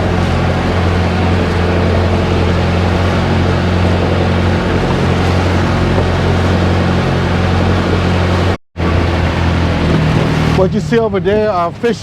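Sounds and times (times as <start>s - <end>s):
boat engine running: 0.0s - 12.0s
water rushing: 0.0s - 12.0s
wind: 0.0s - 12.0s.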